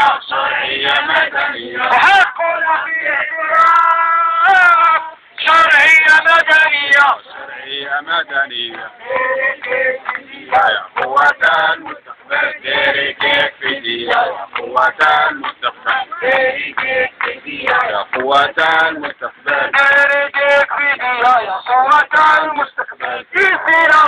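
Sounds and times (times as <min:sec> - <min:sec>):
man chanting through a megaphone: 0:00.0 - 0:16.5, 0:17.4 - 0:24.0.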